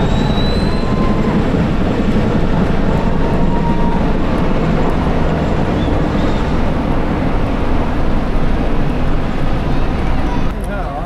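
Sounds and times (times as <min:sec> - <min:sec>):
helicopters flying overhead: 0:00.0 - 0:11.0.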